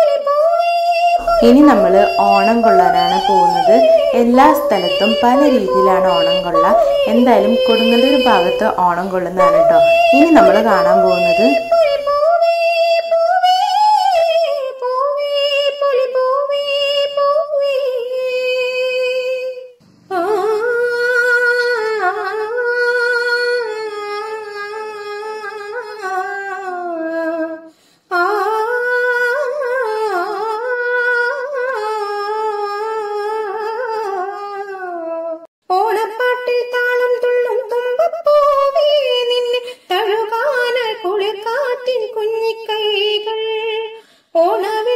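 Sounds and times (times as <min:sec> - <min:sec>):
high voice singing wordless melody: 0:00.0 - 0:44.9.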